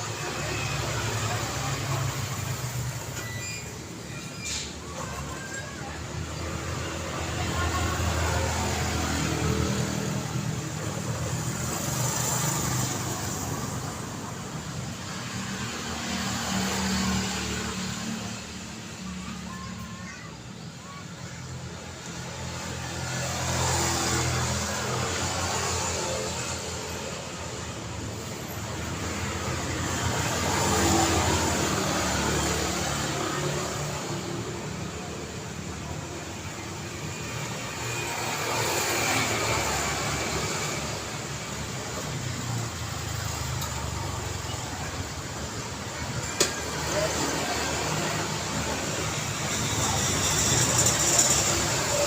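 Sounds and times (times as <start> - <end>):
cars passing: 3.8 - 52.0.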